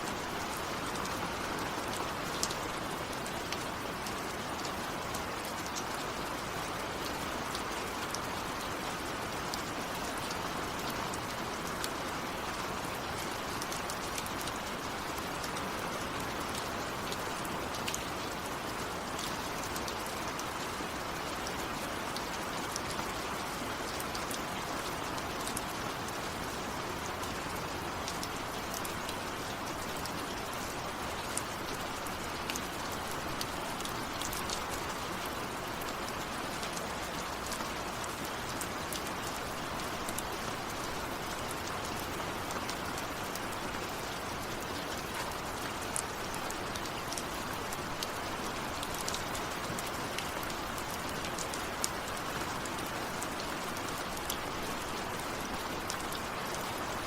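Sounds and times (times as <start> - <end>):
steady rainfall: 0.0 - 57.0
raindrops ticking close by: 0.1 - 57.0.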